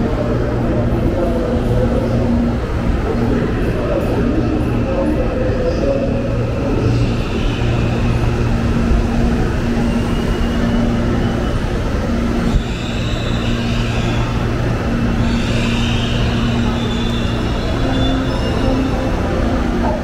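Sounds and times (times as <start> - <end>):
electric trains humming: 0.0 - 20.0.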